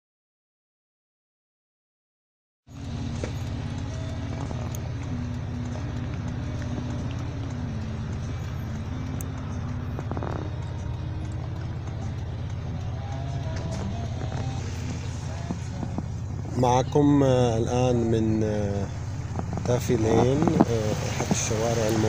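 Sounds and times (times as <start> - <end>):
car cabin engine rumble: 2.7 - 22.0
quiet melody of held notes: 2.7 - 22.0.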